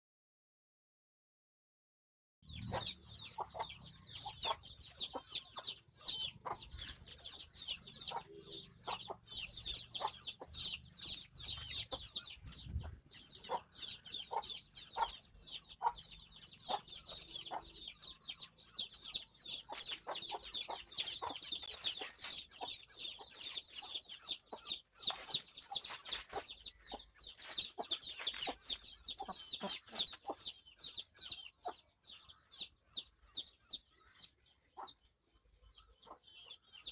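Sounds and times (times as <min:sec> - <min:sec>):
dense high-pitched chirping: 0:02.4 - 0:36.9
chicken clucking: 0:02.5 - 0:33.8, 0:34.6 - 0:35.1.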